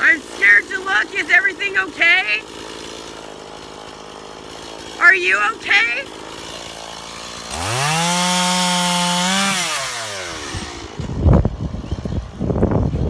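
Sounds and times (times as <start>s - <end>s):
chainsaw revving: 0.0s - 12.6s.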